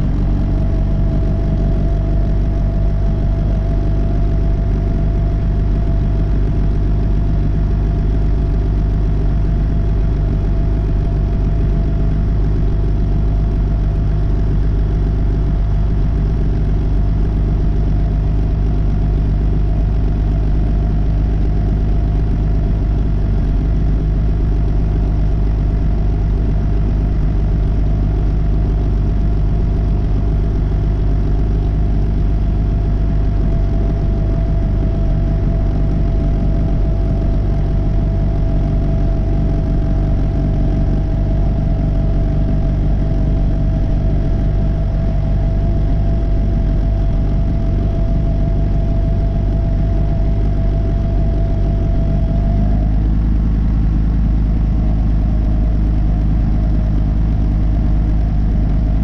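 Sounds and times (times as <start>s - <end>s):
tractor engine droning: 0.0s - 59.0s.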